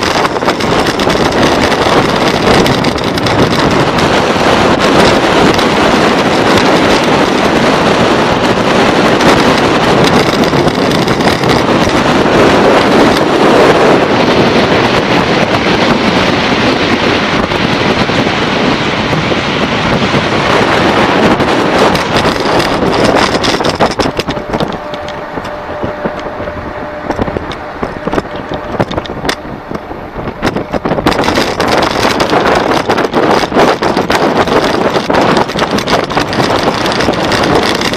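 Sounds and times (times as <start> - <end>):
vehicle motor running: 0.0 - 37.9
wind rushing over microphone: 0.0 - 37.9.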